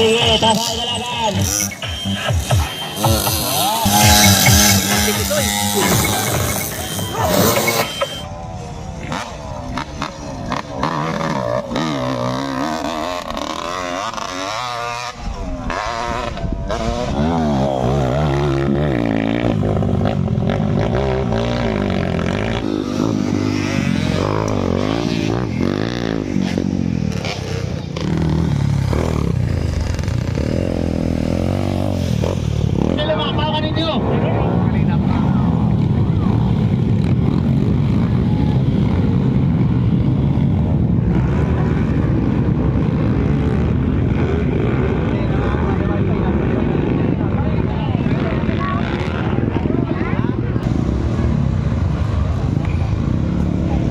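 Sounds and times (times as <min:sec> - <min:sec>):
dirt bike engines revving: 0:00.0 - 0:53.9.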